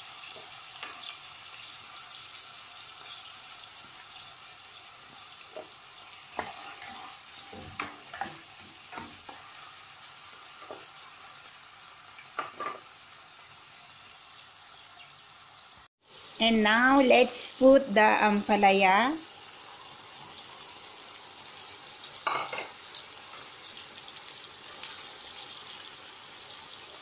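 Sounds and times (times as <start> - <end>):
onion sizzling in a pot: 0.0 - 27.0.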